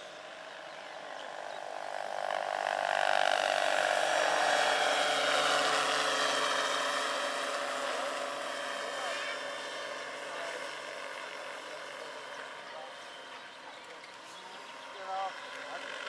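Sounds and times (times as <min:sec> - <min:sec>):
helicopter rotor rushing: 0:00.0 - 0:16.0
model helicopter motor whine: 0:00.0 - 0:16.0.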